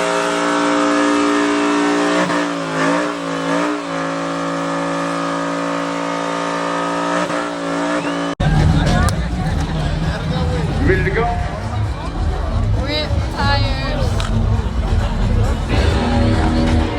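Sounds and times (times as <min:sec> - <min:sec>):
truck engine revving high: 0:00.0 - 0:16.9.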